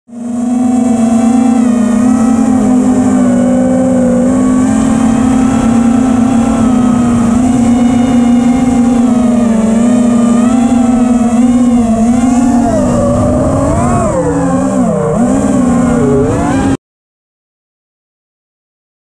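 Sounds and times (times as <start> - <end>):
electric motor and propeller hum: 0.1 - 16.8.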